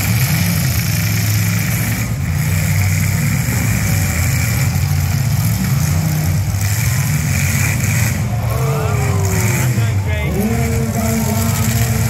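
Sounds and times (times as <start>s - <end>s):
car engines revving and idling: 0.0s - 12.0s.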